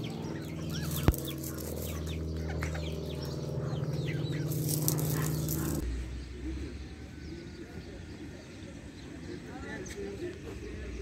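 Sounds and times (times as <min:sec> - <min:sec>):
steady low hum: 0:00.0 - 0:09.6
bird chirps: 0:00.0 - 0:09.9.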